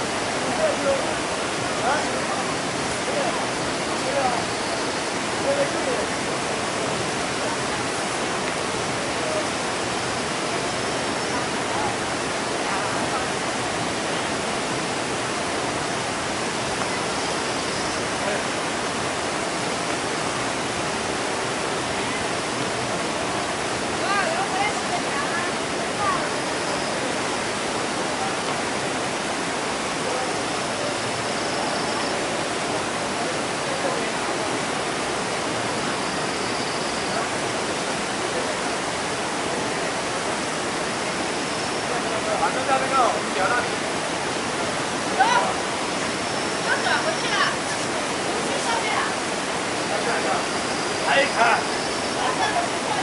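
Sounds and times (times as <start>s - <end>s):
water rushing over weir: 0.0s - 53.0s.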